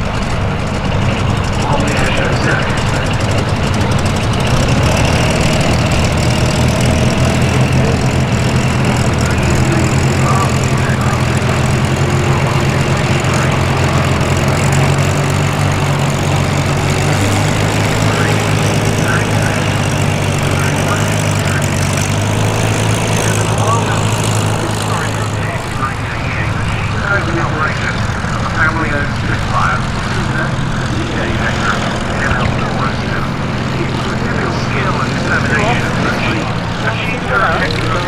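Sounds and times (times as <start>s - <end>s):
piston aircraft engines droning: 0.0s - 38.0s.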